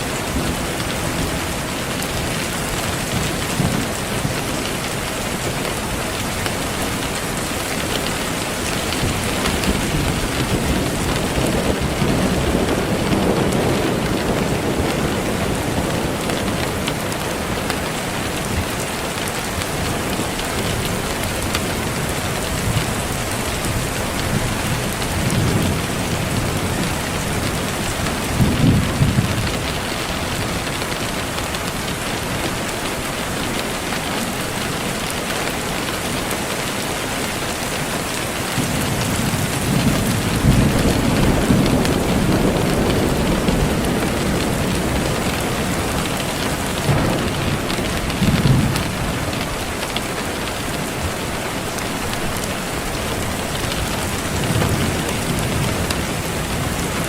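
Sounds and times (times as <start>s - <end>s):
thunder rumbles: 0.0s - 33.1s, 38.0s - 57.0s
steady rain: 0.0s - 57.0s.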